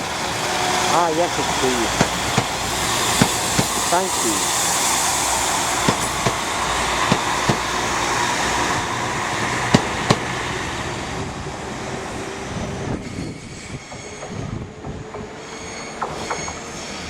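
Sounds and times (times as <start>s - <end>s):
train wheels clicking over rail joints: 0.0s - 11.3s, 12.8s - 17.0s
train rolling out: 0.0s - 17.0s.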